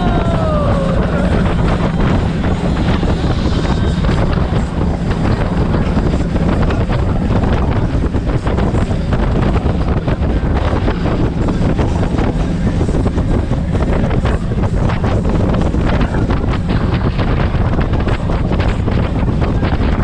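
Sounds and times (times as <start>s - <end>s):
speedboat engines roaring: 0.0s - 20.0s
wind buffeting microphone: 0.0s - 20.0s.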